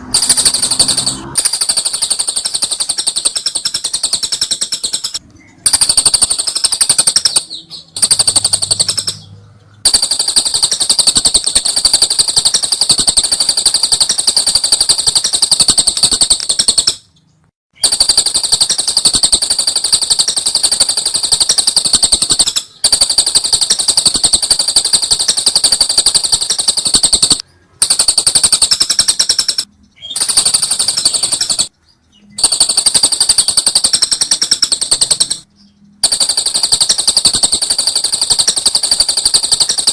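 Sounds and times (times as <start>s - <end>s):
lovebird rattling trill: 0.0s - 17.2s, 17.8s - 31.7s, 32.3s - 39.9s.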